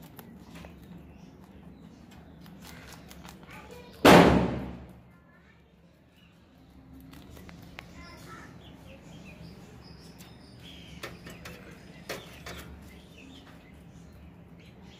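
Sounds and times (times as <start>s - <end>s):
birds chirping: 0.0s - 14.9s
rabbit chewing leaves: 0.0s - 14.9s.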